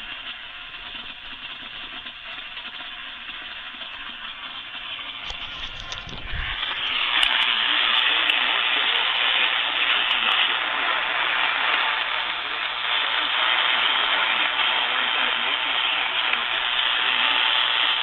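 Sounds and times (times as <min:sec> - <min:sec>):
faint broadcast audio: 0:00.0 - 0:18.0
radio static hiss: 0:00.0 - 0:18.0.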